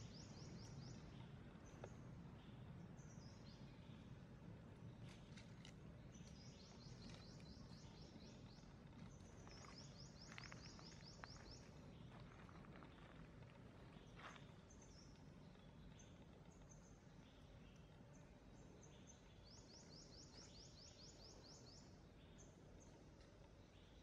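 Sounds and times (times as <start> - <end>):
low steady background hum: 0.0 - 24.0.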